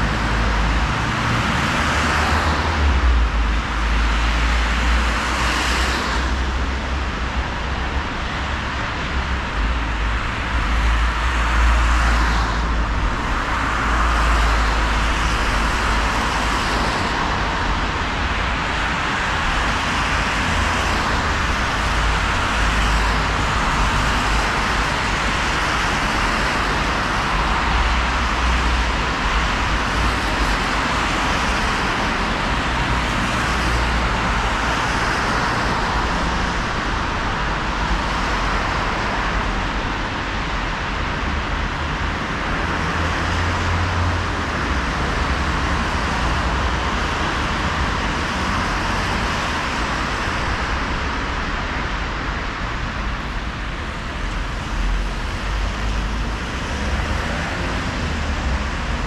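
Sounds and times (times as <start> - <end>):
engine rumble of passing vehicles: 0.0 - 59.0.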